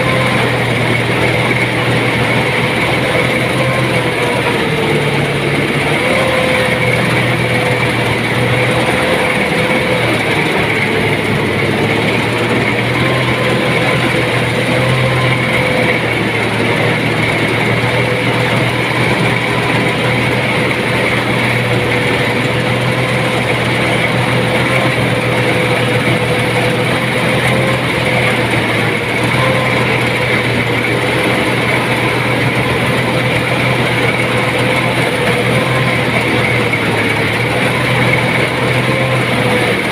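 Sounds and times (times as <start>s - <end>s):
thresher machine droning: 0.0s - 39.9s.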